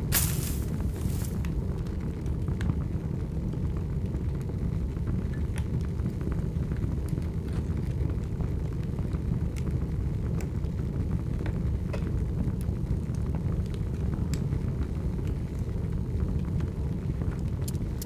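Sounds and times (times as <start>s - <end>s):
fire crackles and pops: 0.0s - 18.0s
fire roaring: 0.0s - 18.0s.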